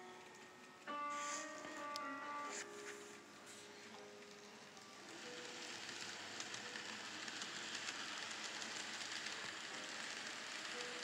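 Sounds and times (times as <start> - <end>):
model train rolling past: 0.0 - 11.0.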